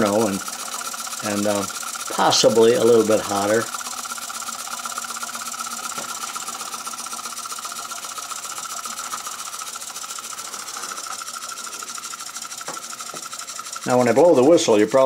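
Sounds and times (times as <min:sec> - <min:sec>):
toy steam engine chuffing: 0:00.0 - 0:15.0.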